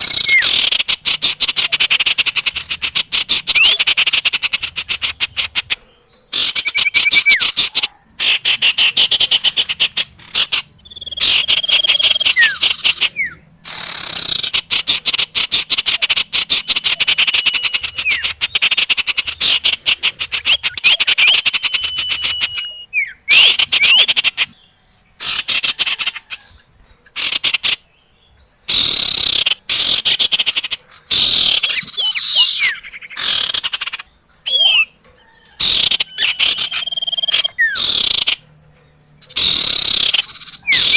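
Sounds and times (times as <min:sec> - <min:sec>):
small songbirds chattering and whistling: 0:00.0 - 0:40.9.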